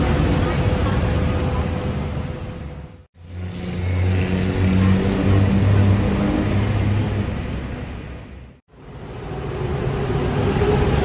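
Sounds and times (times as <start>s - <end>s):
city street traffic: 0.0s - 11.0s
heavy vehicle engine drone: 0.0s - 11.0s.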